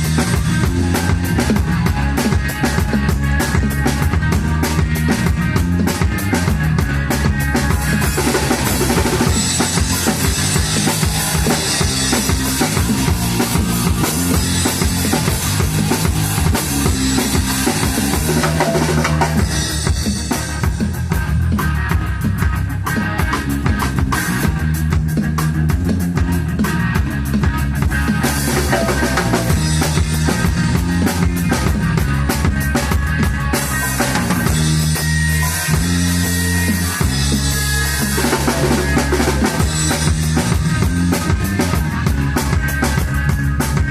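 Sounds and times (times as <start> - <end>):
instrumental rock band playing: 0.0 - 43.9.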